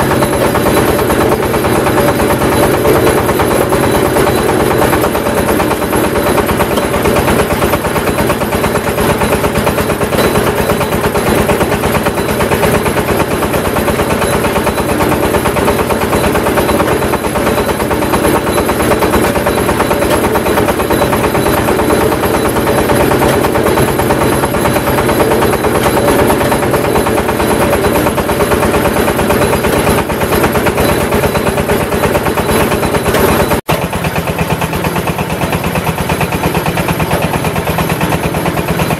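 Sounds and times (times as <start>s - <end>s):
brick press machine knocking: 0.0s - 38.9s.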